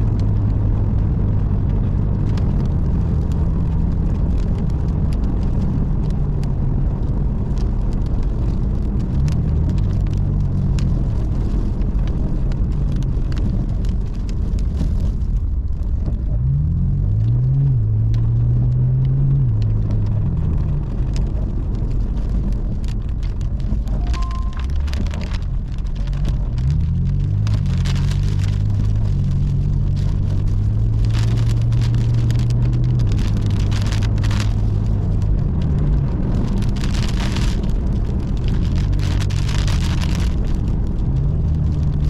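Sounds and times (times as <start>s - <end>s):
car engine rumbling: 0.0s - 42.0s.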